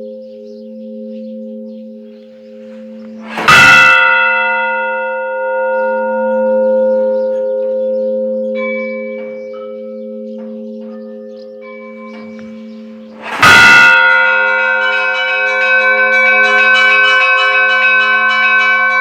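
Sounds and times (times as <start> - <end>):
large church bell: 0.0 - 19.0
smaller higher bells: 0.0 - 19.0.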